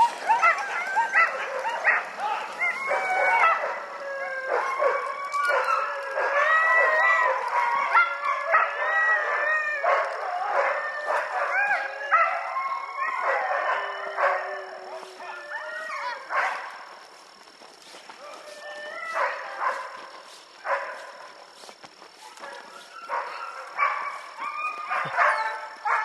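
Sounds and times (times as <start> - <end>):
dogs barking and yipping: 0.0 - 17.1, 17.9 - 26.0.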